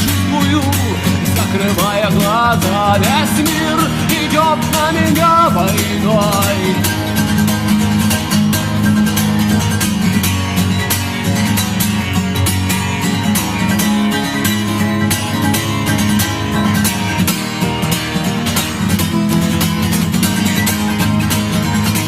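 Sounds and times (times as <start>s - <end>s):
strummed rock guitar: 0.0s - 22.0s.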